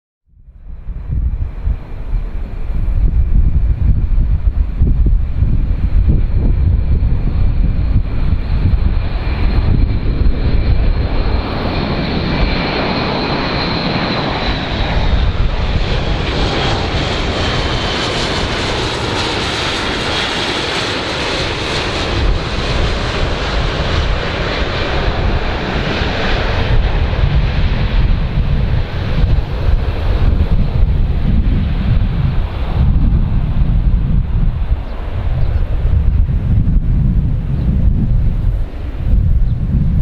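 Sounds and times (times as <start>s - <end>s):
airplane engines passing: 0.4s - 40.0s.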